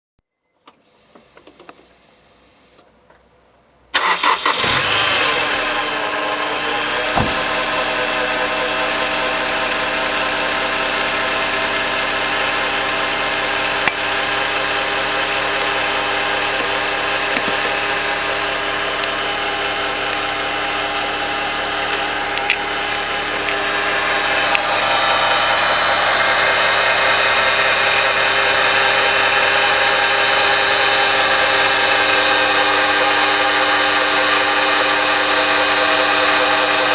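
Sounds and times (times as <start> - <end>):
car engine starting and idling: 0.6 - 36.9.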